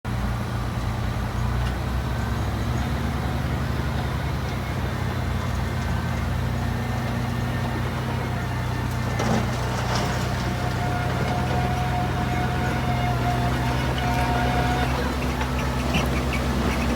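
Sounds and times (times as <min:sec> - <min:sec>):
bulldozer diesel engine droning: 0:00.1 - 0:16.9.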